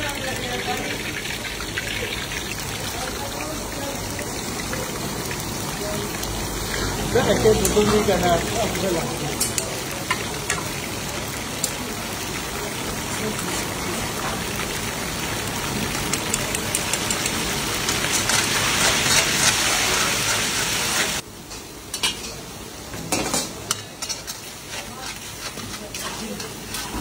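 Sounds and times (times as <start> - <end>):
meat sizzling in hot oil: 0.0 - 27.0.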